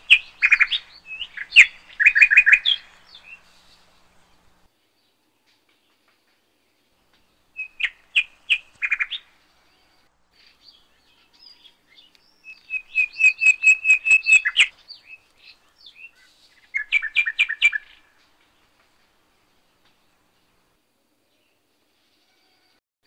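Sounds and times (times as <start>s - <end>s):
bird chirping: 0.0s - 5.1s, 7.1s - 20.7s.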